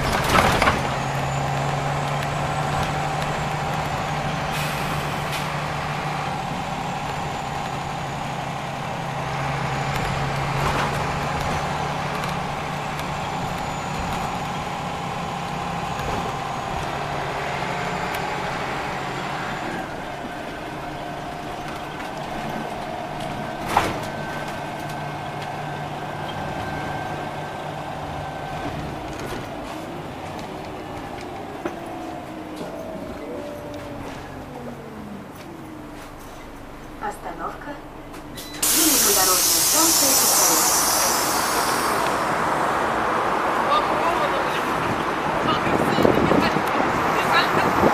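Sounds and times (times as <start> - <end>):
bus engine hum: 0.0 - 47.9.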